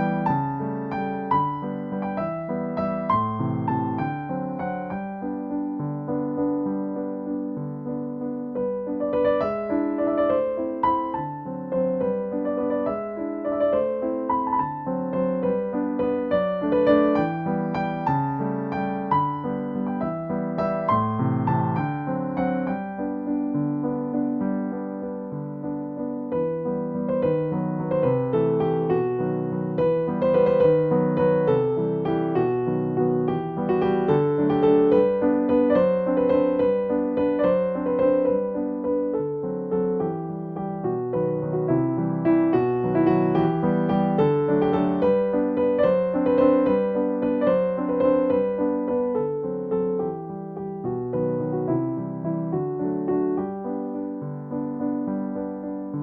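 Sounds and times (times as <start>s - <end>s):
soft piano music: 0.0s - 56.0s.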